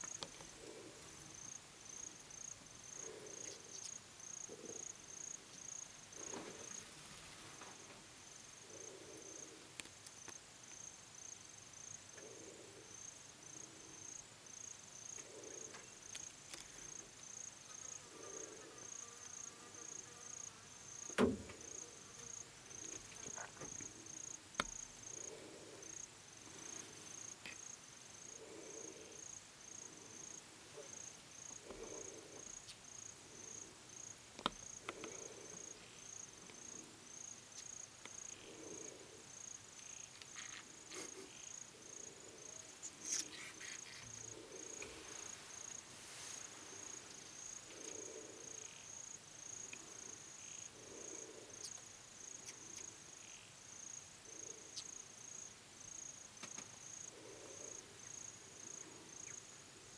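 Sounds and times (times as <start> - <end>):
insect chirping: 0.0 - 59.9.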